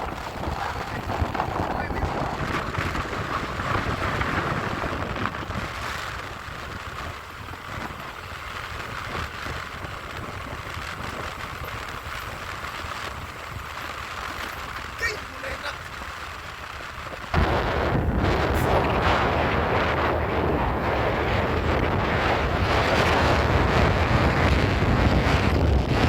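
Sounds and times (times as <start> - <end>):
vehicle engine rumbling: 0.0 - 26.0
wind rushing over microphone: 0.0 - 26.0.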